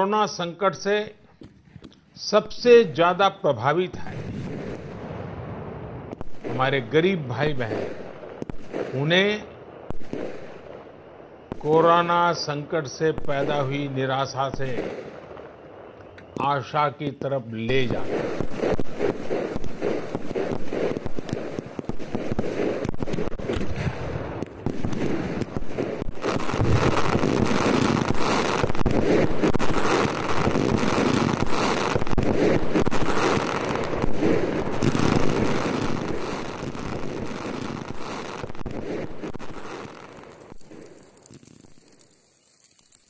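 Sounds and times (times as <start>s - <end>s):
fireworks cracking and banging: 1.3s - 3.2s, 3.9s - 43.0s.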